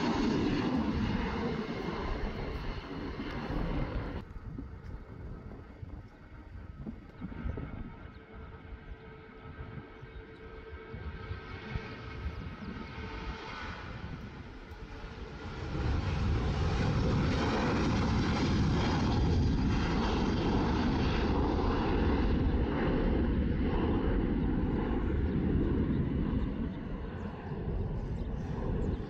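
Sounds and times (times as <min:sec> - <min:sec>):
jet engines roaring at takeoff: 0:00.0 - 0:29.0.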